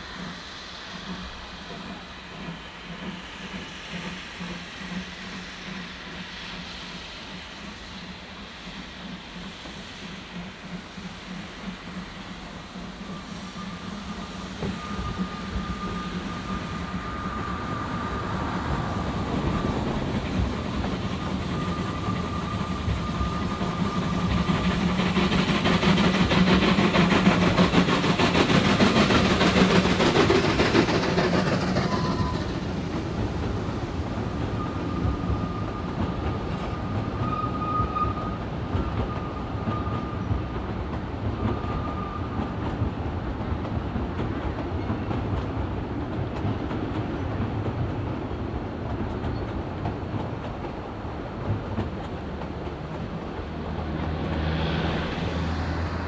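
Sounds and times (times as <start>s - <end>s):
steam locomotive passing: 0.0s - 56.0s.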